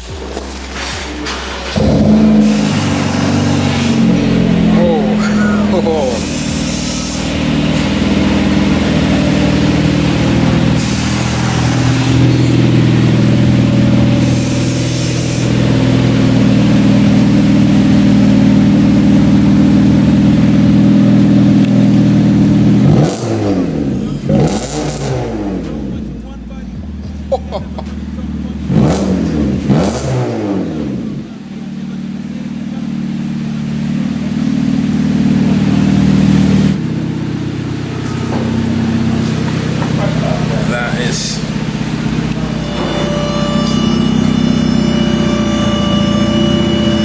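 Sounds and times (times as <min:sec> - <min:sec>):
car engine droning: 0:00.0 - 0:47.0.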